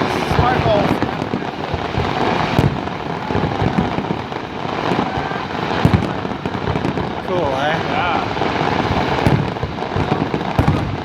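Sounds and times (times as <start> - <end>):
fireworks booming and crackling: 0.0 - 11.0
sharp firework bangs: 0.0 - 11.0.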